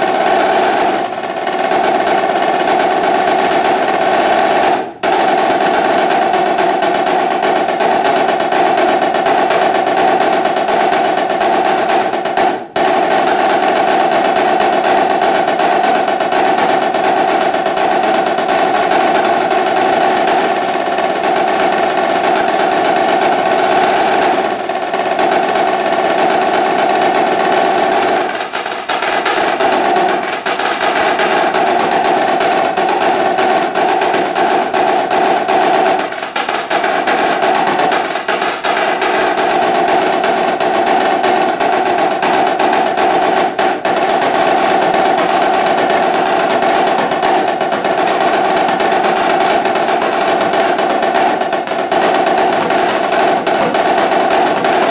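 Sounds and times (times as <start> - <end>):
snare drum rolls: 0.0 - 54.9.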